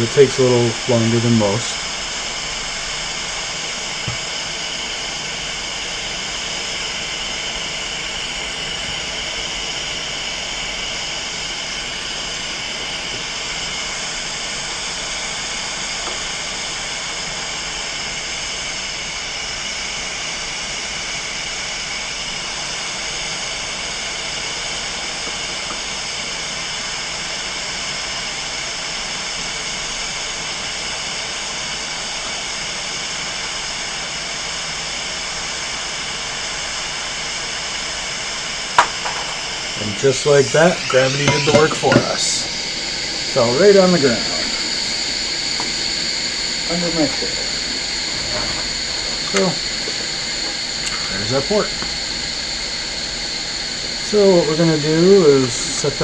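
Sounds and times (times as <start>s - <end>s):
hot air station hiss: 0.0s - 56.0s.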